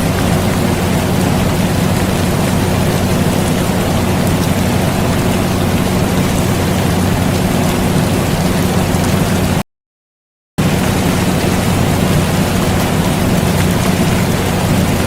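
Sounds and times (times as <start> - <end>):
air conditioner humming: 0.0 - 9.6, 10.6 - 15.0
rain hiss: 0.0 - 9.6, 10.6 - 15.0.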